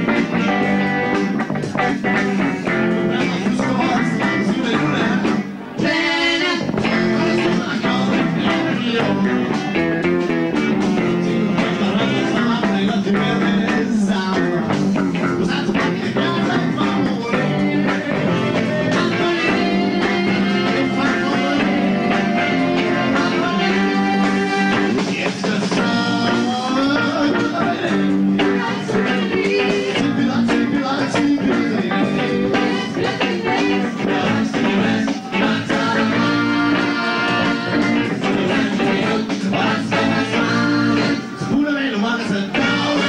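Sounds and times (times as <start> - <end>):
drum kit: 0.0 - 41.6, 42.3 - 43.0
electric bass: 0.0 - 43.0
electric guitar: 0.0 - 43.0.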